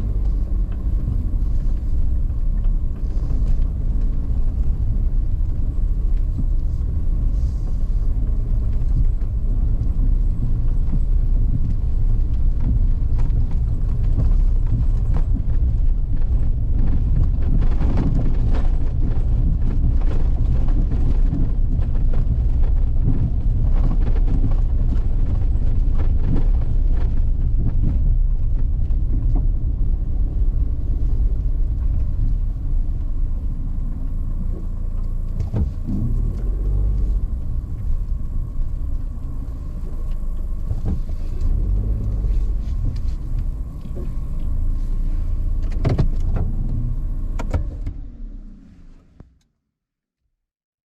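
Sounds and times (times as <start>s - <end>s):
knocks and rattles from rough road: 0.0s - 49.4s
vehicle engine and tyres rumbling: 0.0s - 49.6s.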